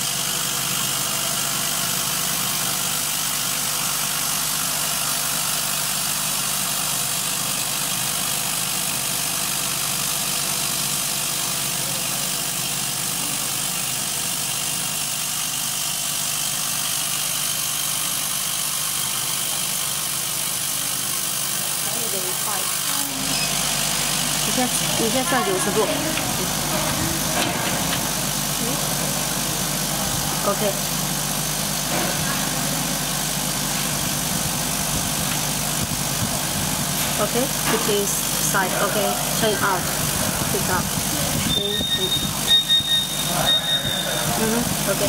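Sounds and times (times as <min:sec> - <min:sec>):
laser cutter humming: 0:00.0 - 0:45.0.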